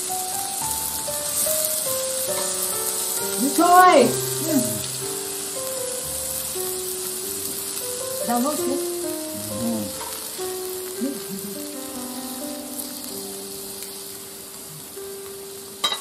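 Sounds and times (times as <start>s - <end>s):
background music with held notes: 0.0s - 16.0s
food sizzling in a pan: 0.0s - 16.0s.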